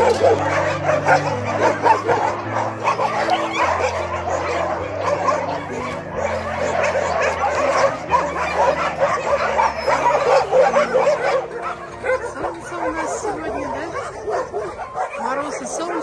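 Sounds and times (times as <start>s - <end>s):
many dogs barking: 0.0s - 16.0s.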